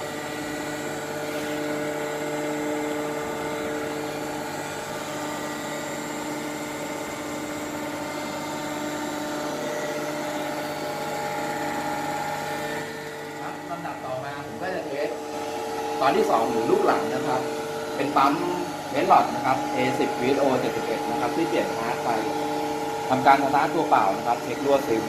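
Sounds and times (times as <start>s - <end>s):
hydraulic pump humming: 0.0s - 25.0s.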